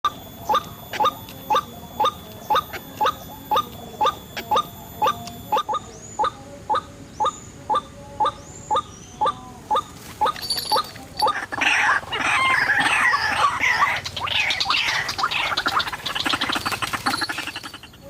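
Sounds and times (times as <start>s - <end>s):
waterhen calling: 0.0s - 18.0s.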